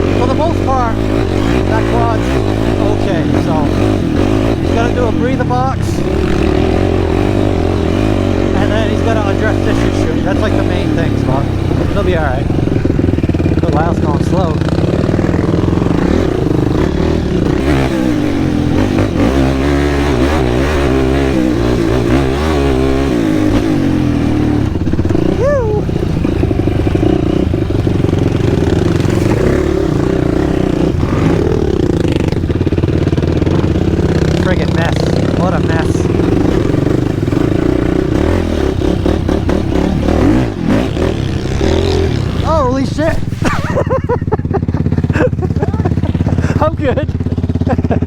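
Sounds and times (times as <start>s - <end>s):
quad engine revving: 0.0s - 48.0s.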